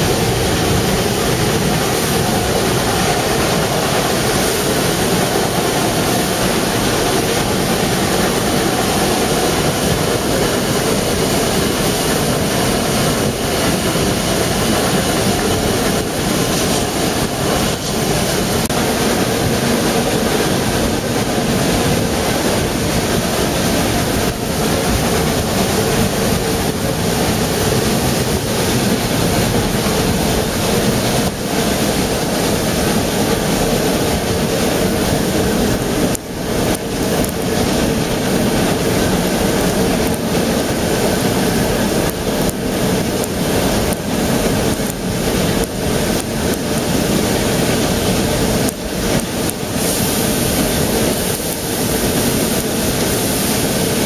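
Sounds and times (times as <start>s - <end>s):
steam train running: 0.0s - 54.0s
wheels rushing on rail: 0.0s - 54.0s.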